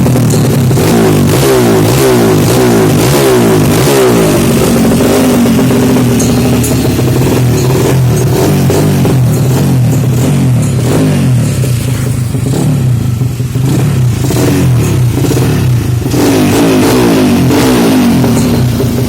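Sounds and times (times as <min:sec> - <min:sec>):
scooter engine revving: 0:00.0 - 0:19.0.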